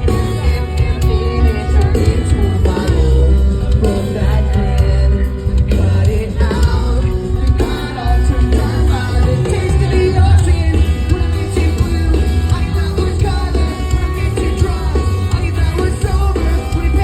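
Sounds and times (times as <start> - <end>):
live rock band playing: 0.0 - 17.0
person singing lead vocal: 0.0 - 17.0.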